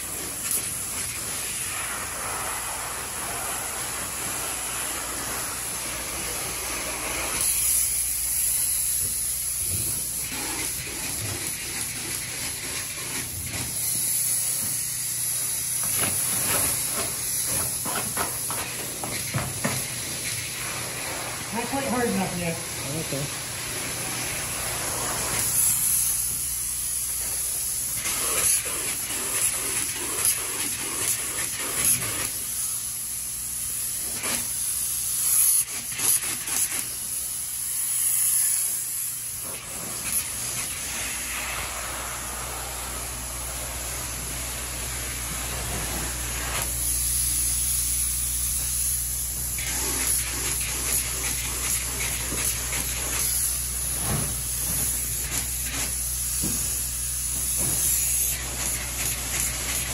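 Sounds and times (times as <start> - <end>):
spray foam gun hissing: 0.0 - 59.9.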